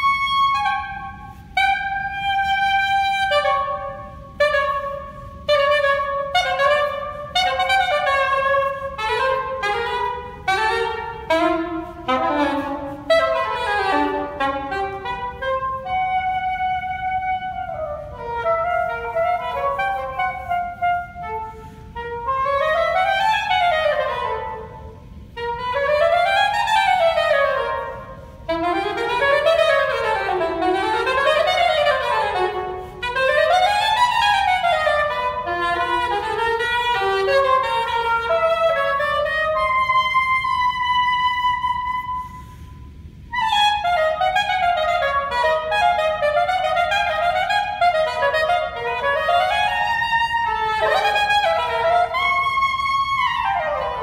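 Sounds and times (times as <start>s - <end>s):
solo saxophone arpeggios: 0.0s - 54.0s.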